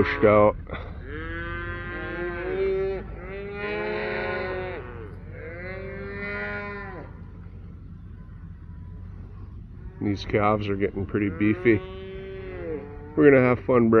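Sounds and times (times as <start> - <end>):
cattle mooing: 0.0 - 14.0.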